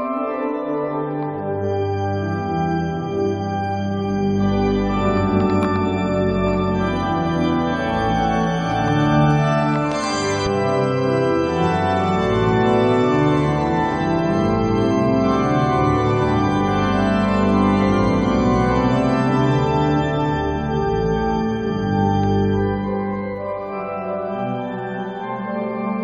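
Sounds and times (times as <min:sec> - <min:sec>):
organ playing slow chords: 0:00.3 - 0:26.0.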